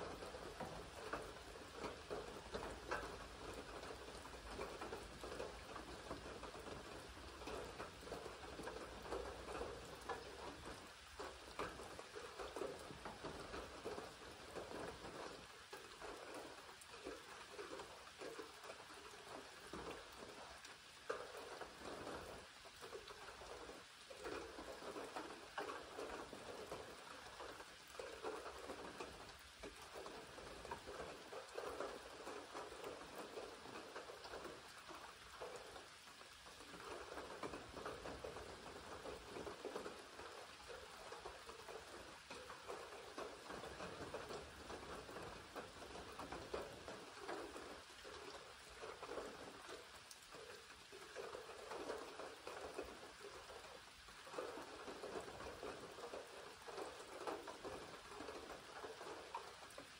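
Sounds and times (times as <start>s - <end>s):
raindrops striking close by: 0.0s - 59.9s
steady rain falling: 0.0s - 59.9s.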